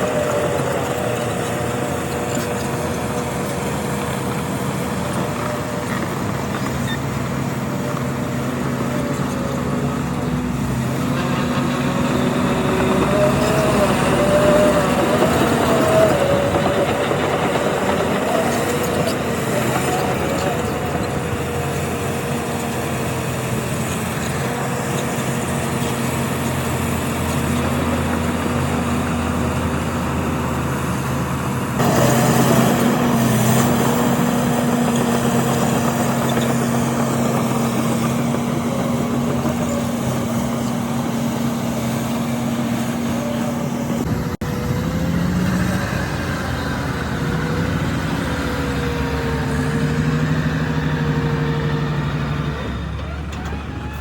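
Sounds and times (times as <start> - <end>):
heavy machine diesel engines: 0.0 - 54.0.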